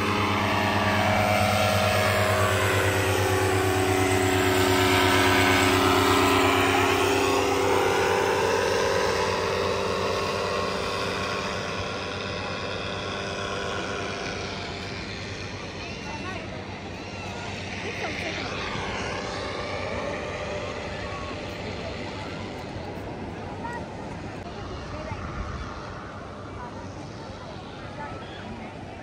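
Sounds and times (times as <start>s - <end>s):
paraglider engine and propeller buzzing: 0.0s - 29.0s.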